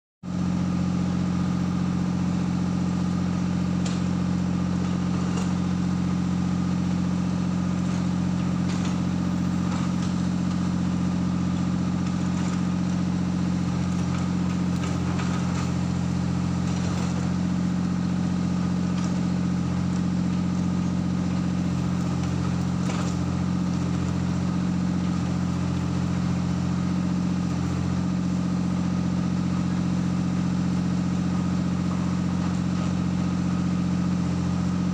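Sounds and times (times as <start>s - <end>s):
diesel engine idling: 0.3s - 34.9s.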